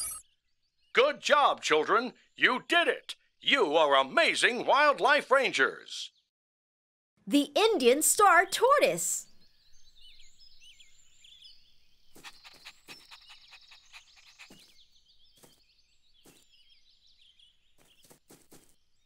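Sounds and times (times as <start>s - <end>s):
birds chirping: 0.0s - 6.3s, 7.3s - 19.0s.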